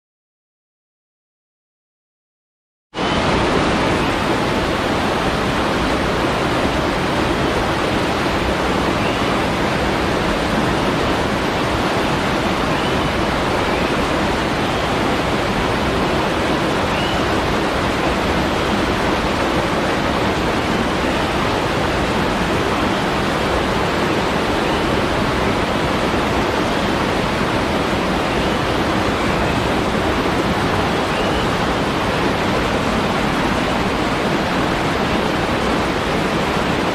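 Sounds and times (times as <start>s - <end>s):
waterfall rushing: 3.0s - 36.9s.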